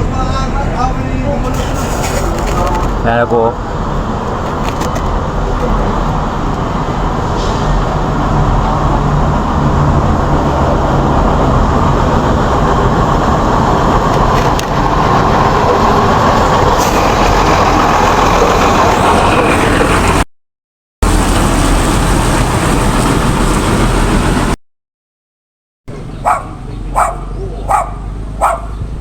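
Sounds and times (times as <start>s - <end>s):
vehicle engine hum: 0.0s - 20.2s, 21.0s - 24.6s, 25.9s - 29.0s
road noise: 0.0s - 20.3s, 21.0s - 24.6s, 25.9s - 29.0s.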